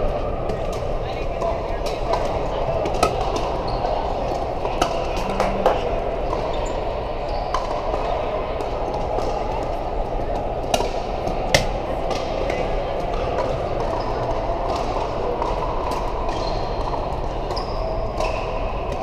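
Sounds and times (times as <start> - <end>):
background chatter: 0.0 - 19.0.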